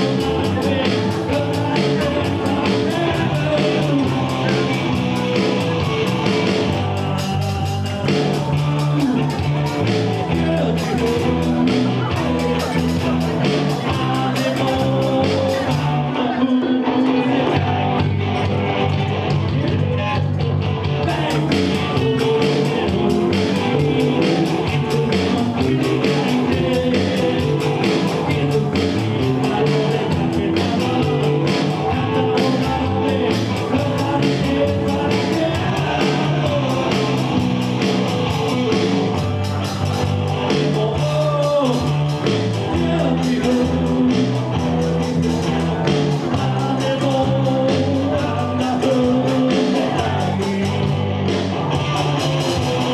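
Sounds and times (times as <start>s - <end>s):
electric guitar: 0.0s - 52.9s
live rock band playing: 0.0s - 52.9s
person singing: 0.0s - 52.9s.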